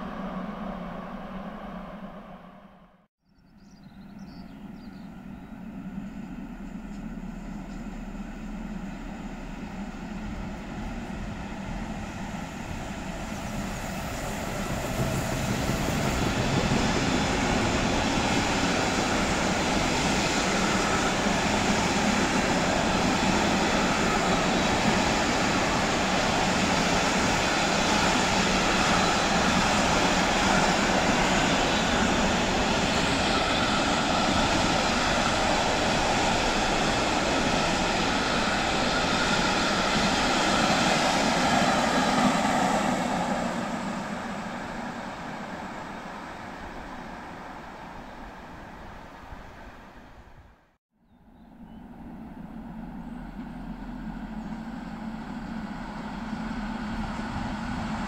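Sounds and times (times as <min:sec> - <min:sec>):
train passing: 0:00.0 - 0:58.0.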